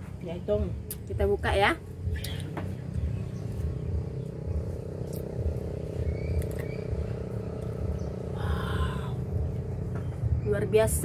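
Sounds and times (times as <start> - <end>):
pulsing low rumble: 0.0 - 11.0.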